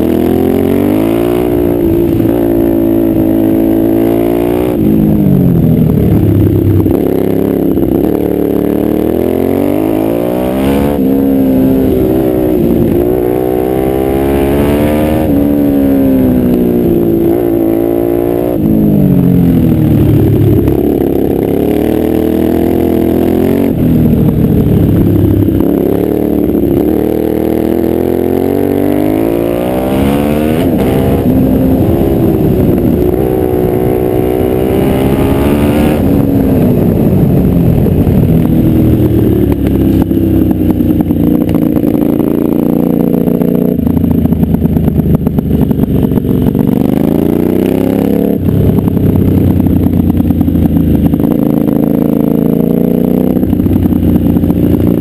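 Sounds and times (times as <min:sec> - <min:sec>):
quad bike engine accelerating: 0:00.0 - 0:55.0
wind and tyre noise: 0:00.0 - 0:55.0.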